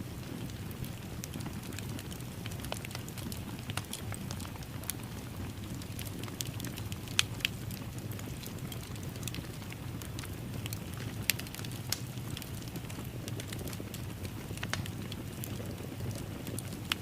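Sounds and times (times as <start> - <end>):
low rumble of flames: 0.0 - 17.0
fire pops and snaps: 0.2 - 17.0.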